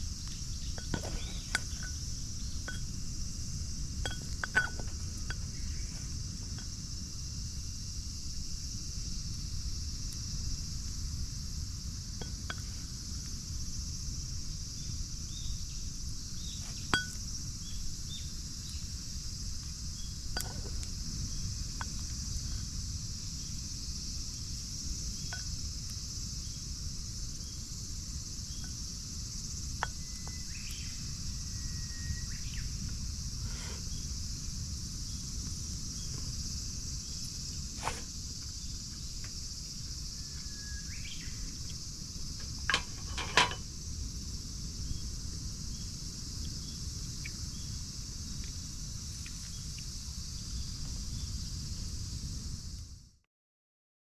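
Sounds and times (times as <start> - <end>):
high insect chirring: 0.0 - 52.8.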